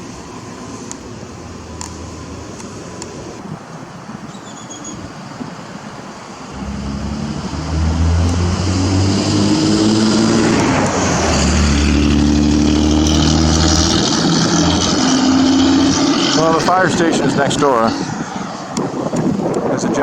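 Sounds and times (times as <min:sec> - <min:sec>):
vehicle engine running: 0:00.0 - 0:04.1, 0:06.4 - 0:19.5.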